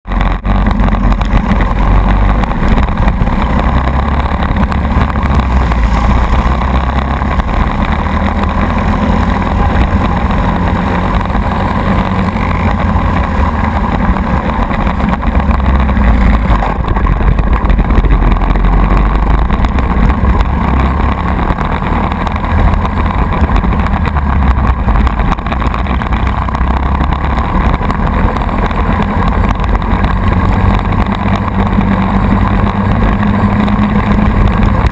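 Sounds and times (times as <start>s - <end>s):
kart engine running: 0.0s - 34.9s.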